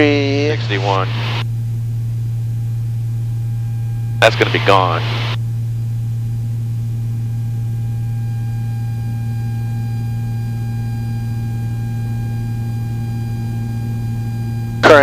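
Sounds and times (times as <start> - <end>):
aircraft engine drone: 0.0 - 15.0
faint high whine tones: 0.0 - 15.0.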